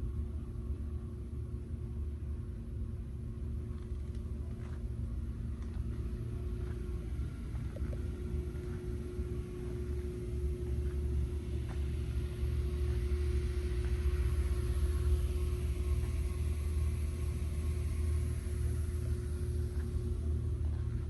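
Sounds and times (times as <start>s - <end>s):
low rumble with hum: 0.0s - 21.0s.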